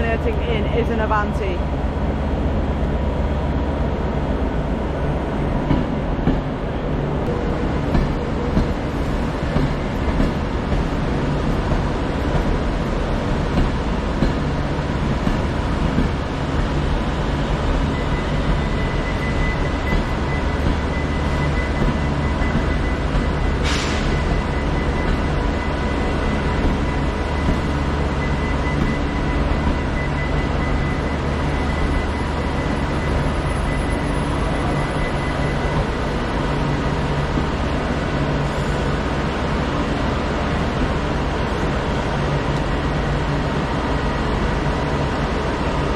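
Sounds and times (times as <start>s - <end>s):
station noise: 0.0s - 1.7s, 5.7s - 45.9s
diesel locomotive idling: 0.0s - 45.9s.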